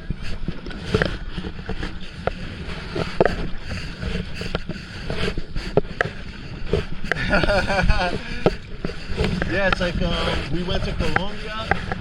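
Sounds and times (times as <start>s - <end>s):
water sloshing around a kayak: 0.0s - 12.0s
wind rumble on microphone: 0.0s - 12.0s.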